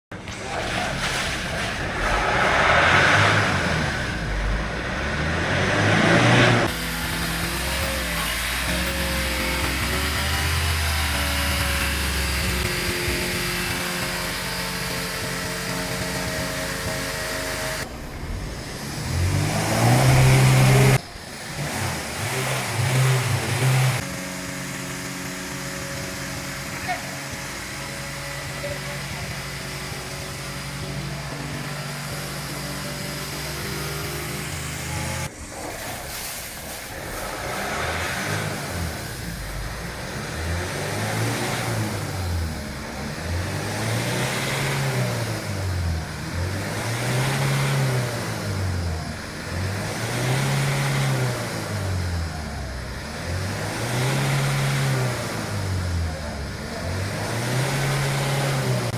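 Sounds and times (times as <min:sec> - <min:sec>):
car engine revving: 0:00.0 - 0:58.9
road noise: 0:00.1 - 0:58.9.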